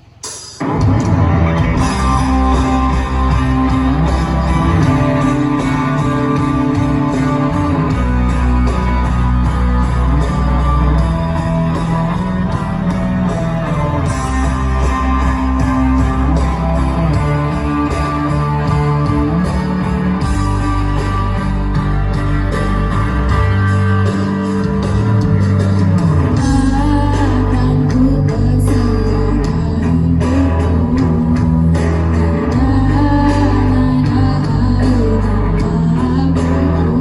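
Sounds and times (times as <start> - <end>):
guitar-led instrumental music: 0.0 - 37.0.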